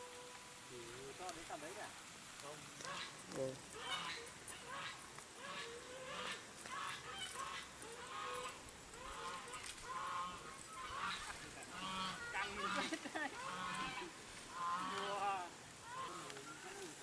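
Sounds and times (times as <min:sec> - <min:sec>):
fowl honking calls: 0:02.8 - 0:17.0.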